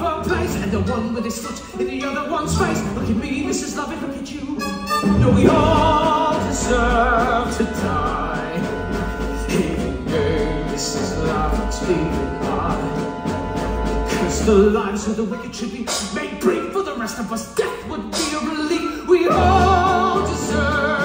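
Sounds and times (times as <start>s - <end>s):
person singing with vibrato: 0.0s - 21.0s
pit orchestra playing: 0.0s - 21.0s.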